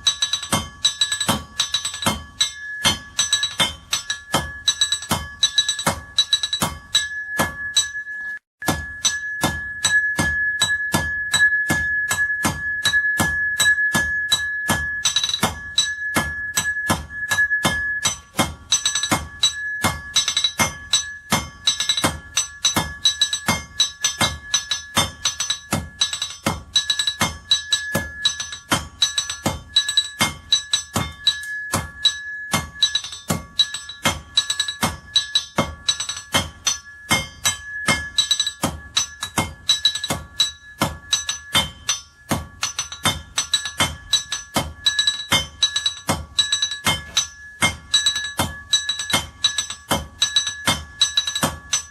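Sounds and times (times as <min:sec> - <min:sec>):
hammer striking iron on anvil: 0:00.0 - 0:51.9.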